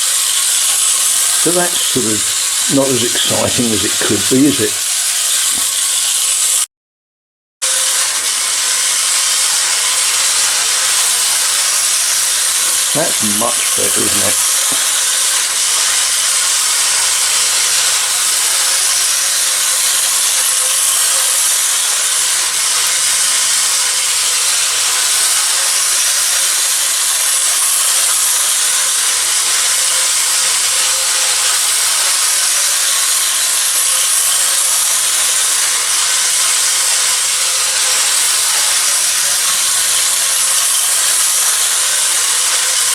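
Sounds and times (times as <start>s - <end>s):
toy train whirring on tin rails: 0.0s - 6.7s, 7.6s - 42.9s.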